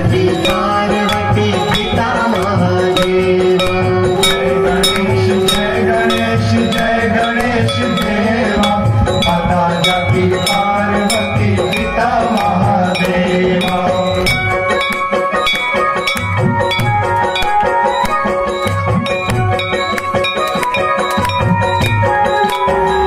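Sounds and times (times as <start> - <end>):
sharp percussion strikes: 0.0 - 23.0
sustained melodic tones: 0.0 - 23.0.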